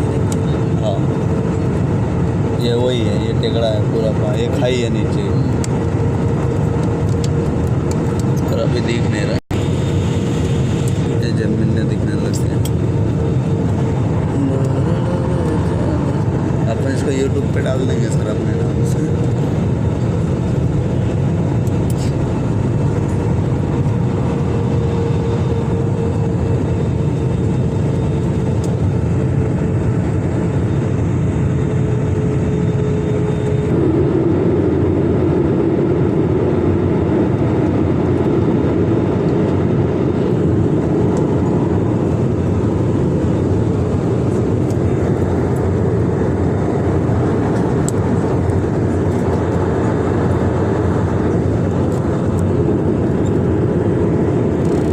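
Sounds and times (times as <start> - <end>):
airliner cabin engine rush: 0.0 - 54.9
low hum: 0.0 - 54.9.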